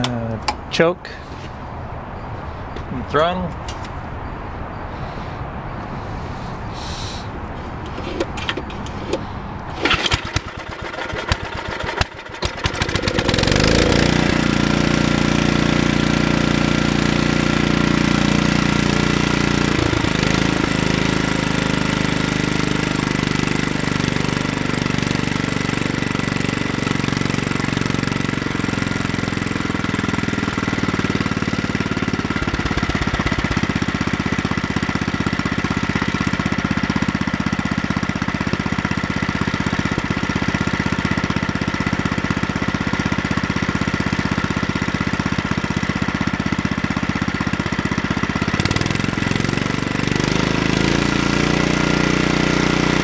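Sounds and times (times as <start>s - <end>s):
small engine cranking and running: 7.9s - 53.0s.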